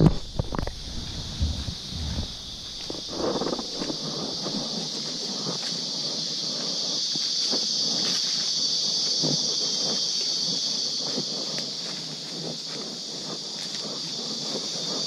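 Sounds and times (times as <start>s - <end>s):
forest insects chorus: 0.0s - 15.0s.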